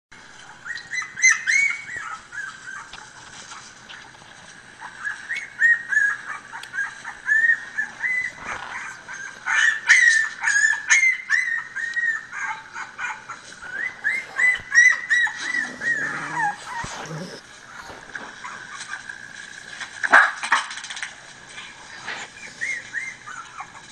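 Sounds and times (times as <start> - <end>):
puppies whimpering and yipping: 0.4 - 4.1, 4.7 - 19.3, 21.7 - 23.9.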